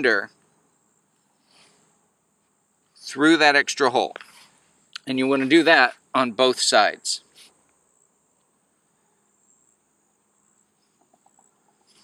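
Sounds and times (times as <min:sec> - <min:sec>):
insects chirring: 0:00.0 - 0:04.7, 0:05.7 - 0:12.0.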